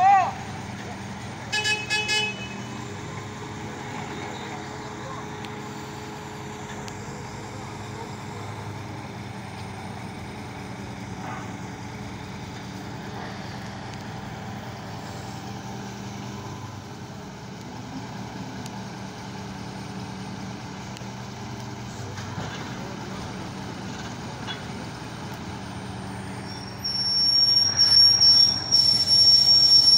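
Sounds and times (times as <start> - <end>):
crane engine humming: 0.0 - 29.9.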